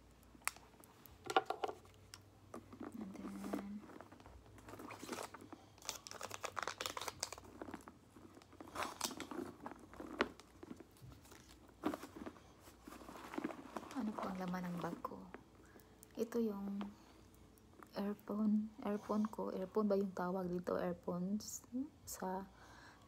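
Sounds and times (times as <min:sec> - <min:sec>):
rustling inside a handbag: 0:01.8 - 0:20.6.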